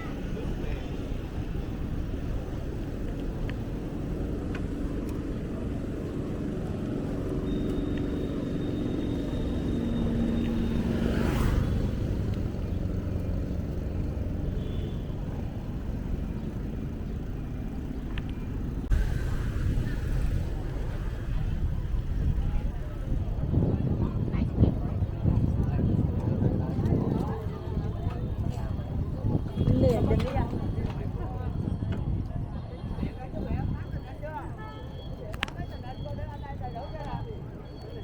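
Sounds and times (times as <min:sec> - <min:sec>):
motorbikes passing: 0:00.0 - 0:31.5
low traffic rumble: 0:00.0 - 0:38.0.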